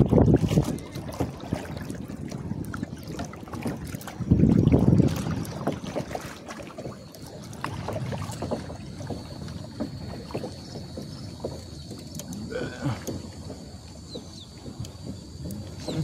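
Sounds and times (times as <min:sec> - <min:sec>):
water lapping against kayak hull: 0:00.0 - 0:16.0.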